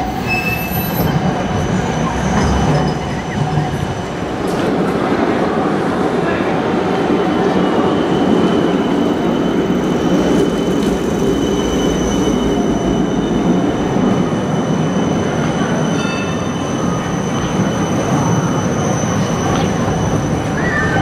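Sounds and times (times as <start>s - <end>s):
tram wheels rumbling on rails: 0.0s - 21.0s.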